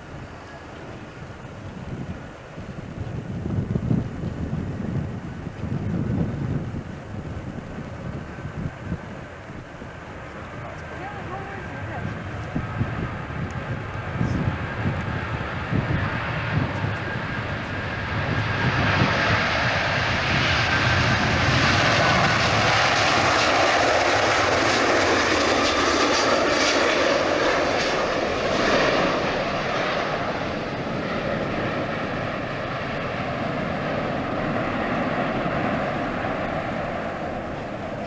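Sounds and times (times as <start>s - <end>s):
airliner engines roaring: 0.0s - 38.0s.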